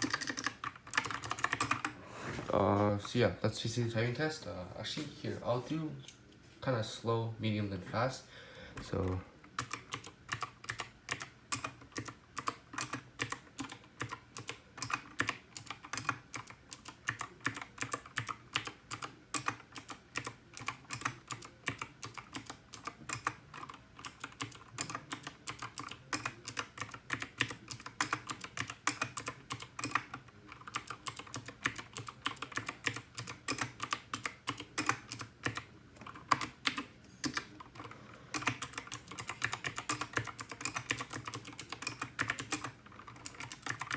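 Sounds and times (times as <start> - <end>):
mechanical keyboard typing clicks: 0.0 - 2.0, 9.6 - 43.9.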